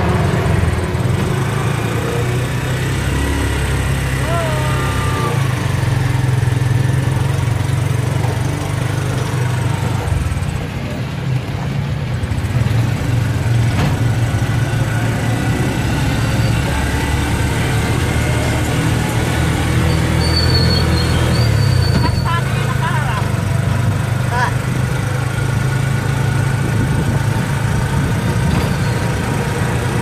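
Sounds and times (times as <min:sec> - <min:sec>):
motorcycle engine running: 0:00.0 - 0:19.4, 0:22.6 - 0:30.0.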